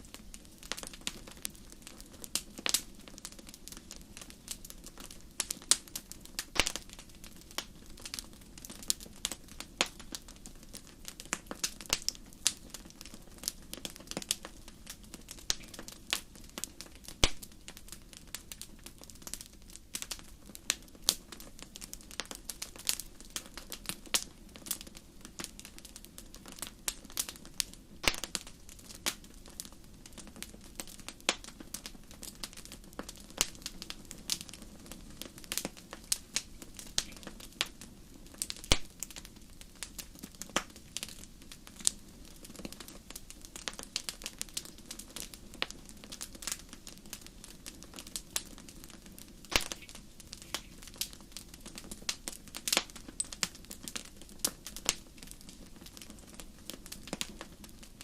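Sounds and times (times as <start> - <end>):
low rumble of fire: 0.0 - 58.0
wood fire crackling and popping: 0.0 - 58.0.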